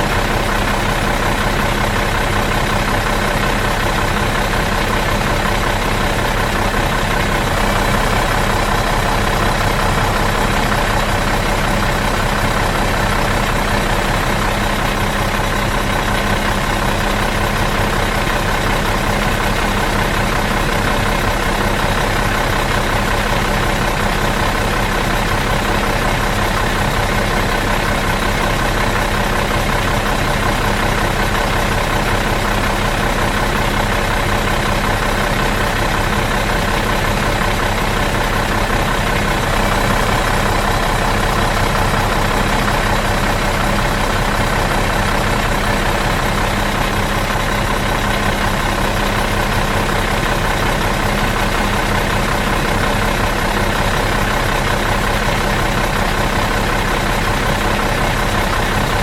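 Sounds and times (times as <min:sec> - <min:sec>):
bus engine idling: 0:00.0 - 0:59.0.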